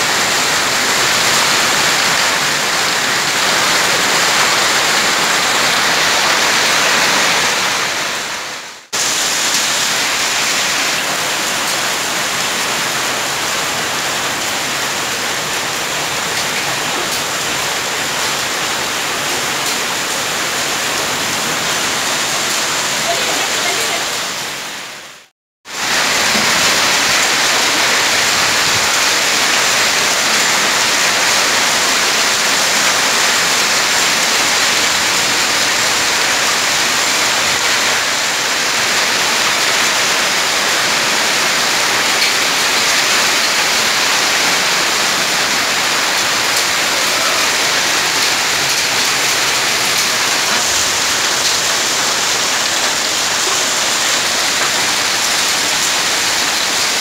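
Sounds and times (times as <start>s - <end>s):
heavy rain and hail on tiles: 0.0s - 57.0s.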